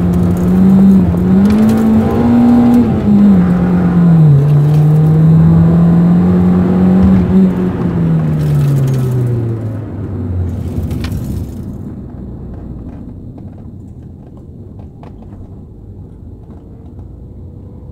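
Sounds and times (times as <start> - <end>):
car engine slowing down: 0.0 - 17.9.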